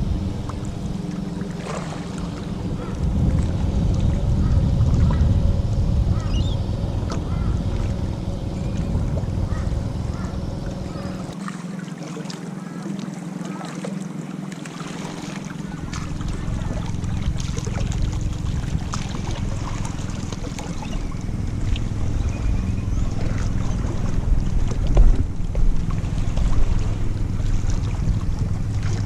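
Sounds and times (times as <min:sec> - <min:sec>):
wind buffeting microphone: 0:00.0 - 0:11.3, 0:15.7 - 0:29.0.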